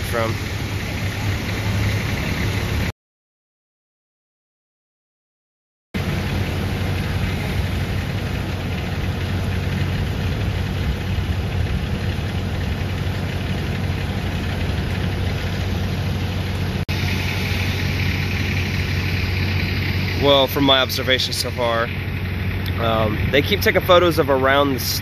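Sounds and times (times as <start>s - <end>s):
vehicle engine idling: 0.0s - 2.9s, 6.0s - 25.0s.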